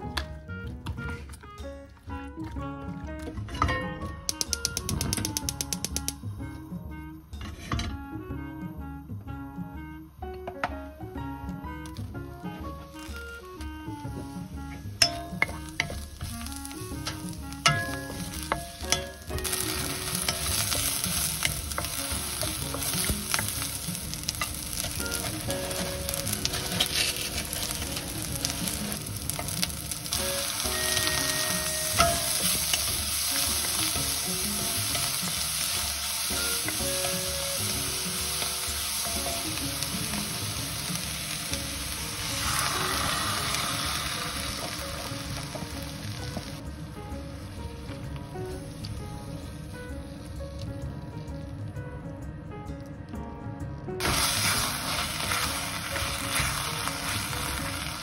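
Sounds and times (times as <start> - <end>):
onion sizzling in a wok: 0.0 - 8.3, 10.5 - 51.9, 54.0 - 58.0.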